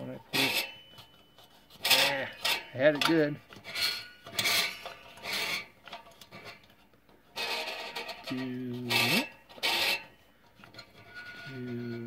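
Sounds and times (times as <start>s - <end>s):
hands scraping tuning knobs: 0.0s - 12.0s.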